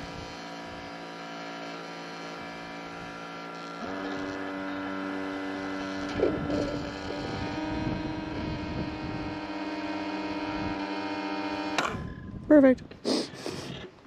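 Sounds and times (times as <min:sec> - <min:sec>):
coffee maker motor hum: 0:00.0 - 0:12.2.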